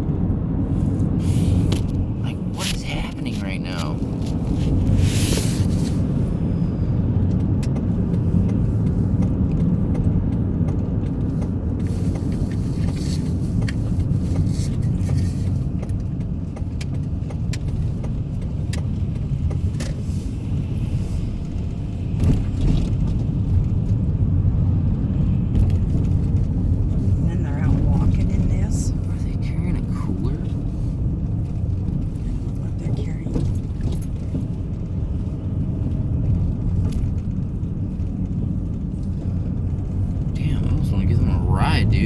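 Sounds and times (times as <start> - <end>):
road rumble inside car: 0.0 - 42.0
light ticks and rattles: 7.1 - 41.3.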